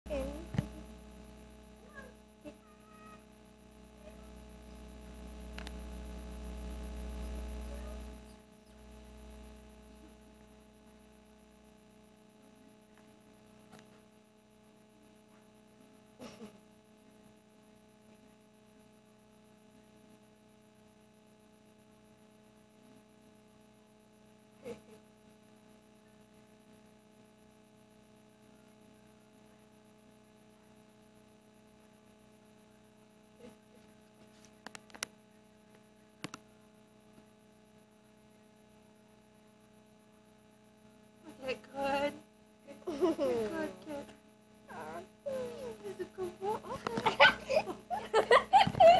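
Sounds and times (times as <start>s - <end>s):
low electrical hum: 0.1s - 48.9s.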